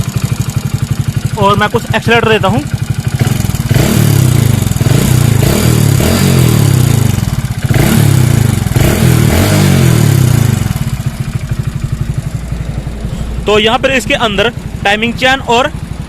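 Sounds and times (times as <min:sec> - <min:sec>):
engine clattering: 0:00.0 - 0:16.0
motorcycle engine revving: 0:00.0 - 0:16.0.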